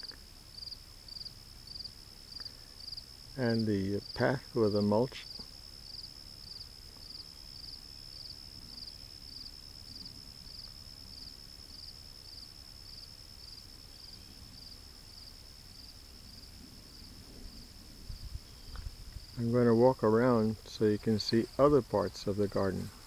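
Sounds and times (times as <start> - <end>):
insect chirping: 0.0 - 23.0
insect high trill: 0.0 - 23.0.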